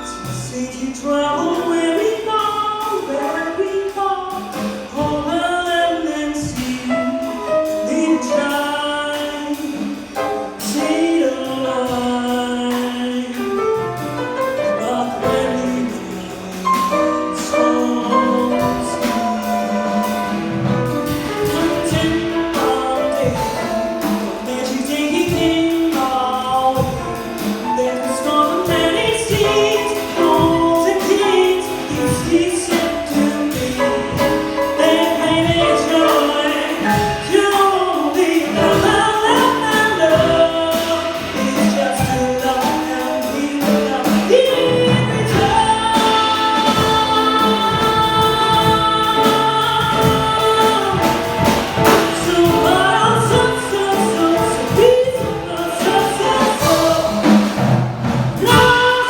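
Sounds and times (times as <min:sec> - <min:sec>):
instrumental accompaniment: 0:00.0 - 0:59.0
woman singing: 0:00.0 - 0:59.0.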